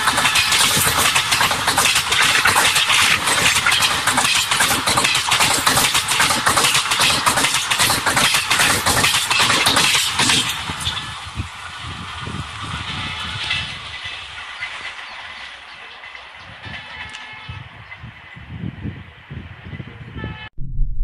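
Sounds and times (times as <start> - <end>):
wheels clattering over rail joints: 0.0 - 18.4
train coaches rushing past: 0.0 - 20.0.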